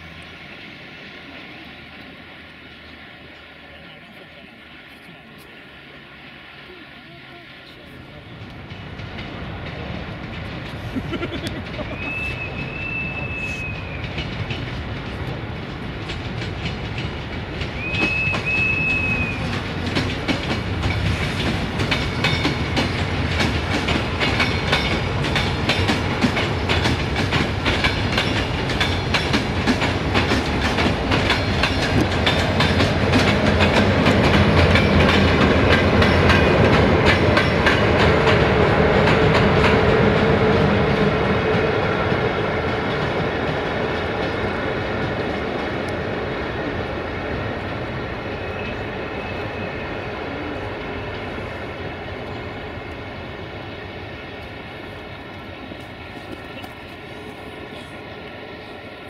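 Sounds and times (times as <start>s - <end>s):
train wheels clicking over rails: 7.7s - 59.0s.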